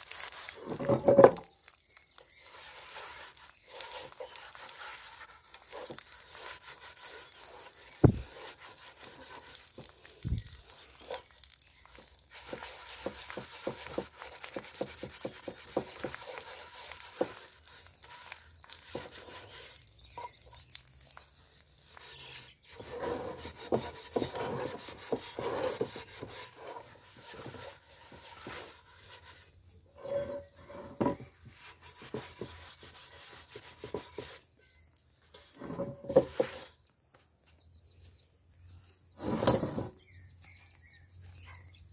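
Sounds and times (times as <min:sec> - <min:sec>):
scouring pad scrubbing pot: 0:00.0 - 0:34.4.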